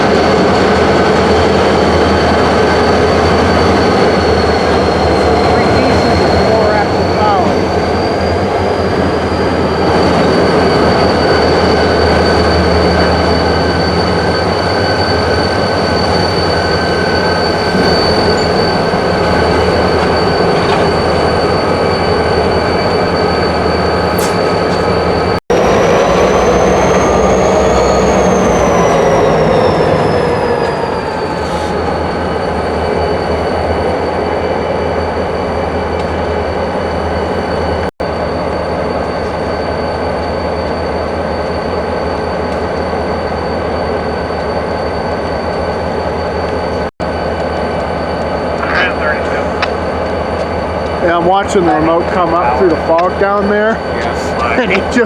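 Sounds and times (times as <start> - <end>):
freight train rumble: 0.0 - 55.0
wheel squeal: 0.0 - 55.0.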